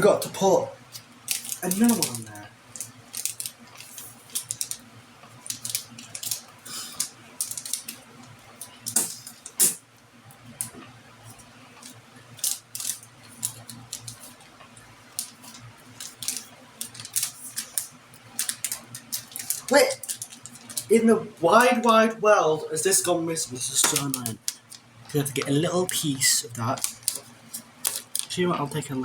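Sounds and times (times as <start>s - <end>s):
rustling packaging: 0.0s - 9.8s, 10.5s - 22.1s, 22.9s - 28.9s.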